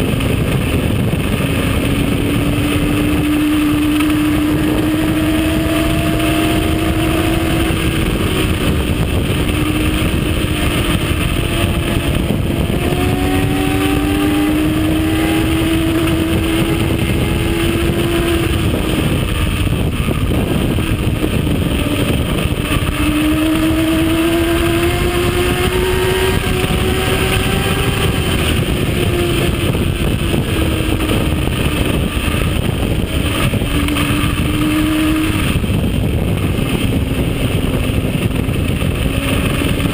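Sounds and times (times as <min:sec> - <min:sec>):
heavy wind rush: 0:00.0 - 0:39.9
motorcycle engine running hard: 0:00.0 - 0:39.9.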